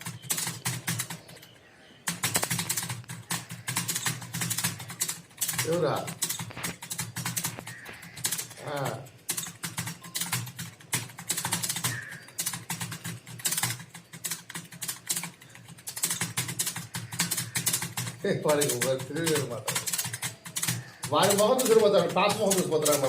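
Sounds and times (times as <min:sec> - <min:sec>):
fast typing on keyboard: 0:00.0 - 0:23.0.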